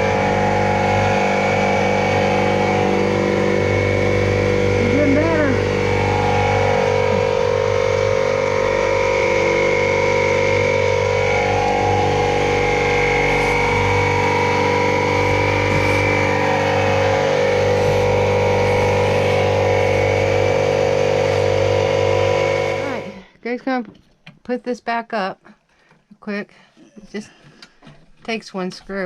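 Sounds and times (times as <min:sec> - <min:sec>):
air compressor motor running: 0:00.0 - 0:23.4.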